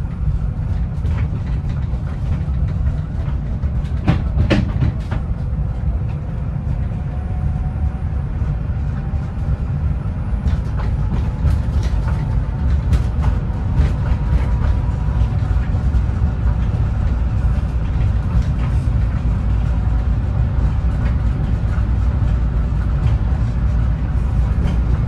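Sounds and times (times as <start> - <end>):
vehicle cabin low rumble: 0.0 - 25.0.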